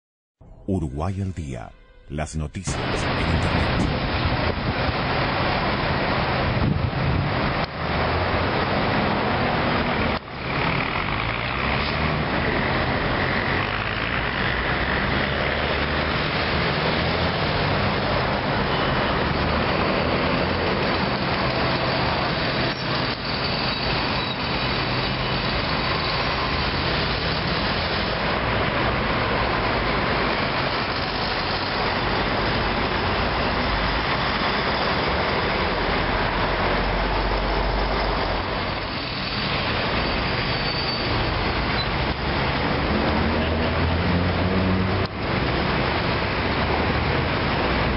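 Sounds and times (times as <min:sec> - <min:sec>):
city street traffic: 0:00.4 - 0:47.9.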